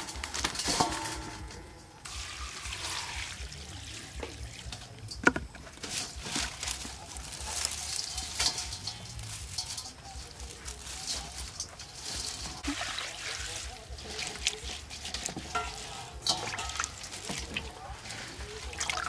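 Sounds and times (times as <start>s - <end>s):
water pouring into metal basin: 0.0s - 19.0s.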